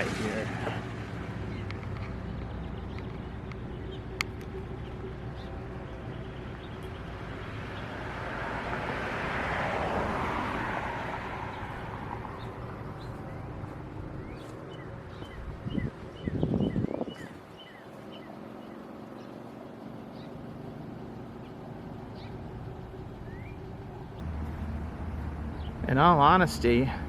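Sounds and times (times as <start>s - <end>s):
passing vehicle tyre noise: 0.0s - 27.0s.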